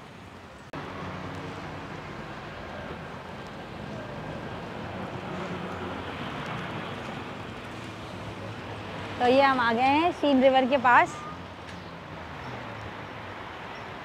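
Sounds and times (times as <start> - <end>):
outdoor city noise: 0.0 - 14.0.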